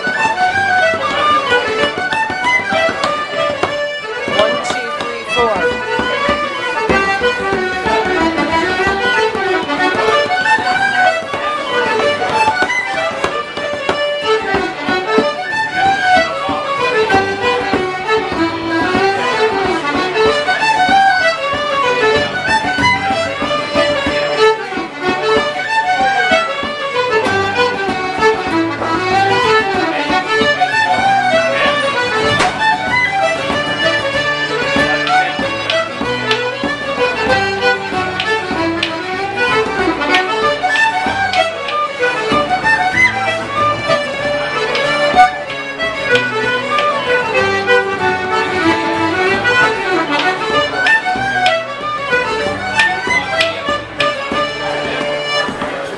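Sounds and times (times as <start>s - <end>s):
accordion: 0.0s - 55.9s
fiddle: 0.0s - 55.9s.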